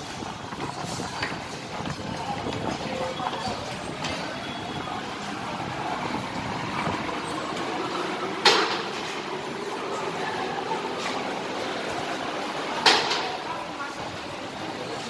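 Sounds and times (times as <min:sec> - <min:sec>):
ticket hall background noise: 0:00.0 - 0:15.0.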